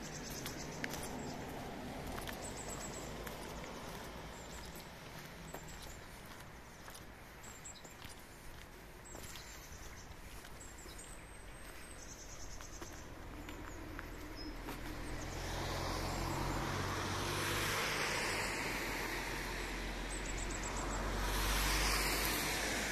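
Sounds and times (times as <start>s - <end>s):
road traffic noise: 0.0s - 22.9s
vehicle engine hum: 0.0s - 22.9s.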